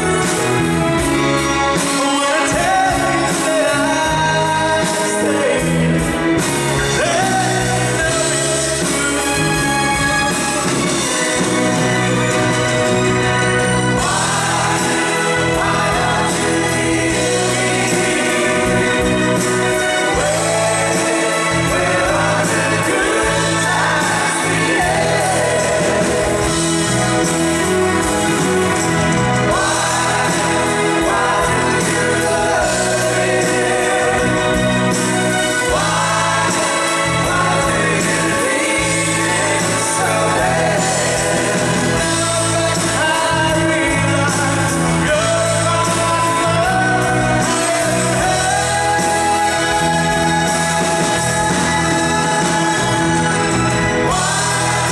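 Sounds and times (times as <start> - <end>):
bass guitar: 0.0 - 54.9
drums: 0.0 - 54.9
men singing together: 0.0 - 54.9
piano: 0.0 - 54.9
strummed acoustic guitars: 0.0 - 54.9.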